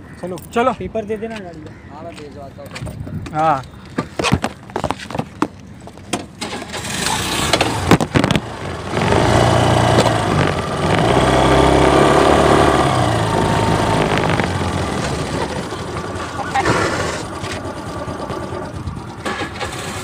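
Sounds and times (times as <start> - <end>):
scooter engines starting and running: 3.4 - 20.0.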